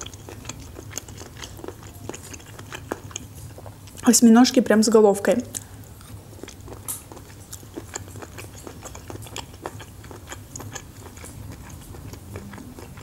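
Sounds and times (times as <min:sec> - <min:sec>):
wet chewing clicks and smacks: 0:00.0 - 0:04.1, 0:05.5 - 0:13.0
fireplace crackle with low hum: 0:00.0 - 0:13.0.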